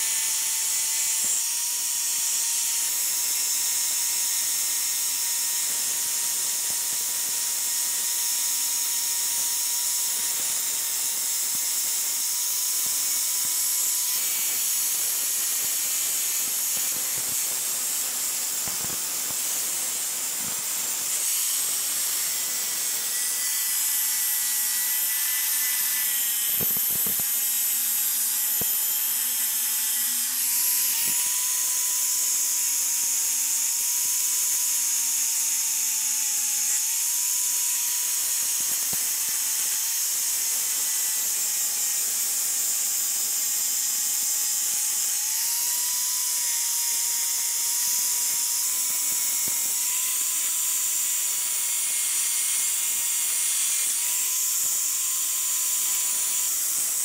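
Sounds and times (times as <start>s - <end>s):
angle grinder grinding metal: 0.0s - 57.0s.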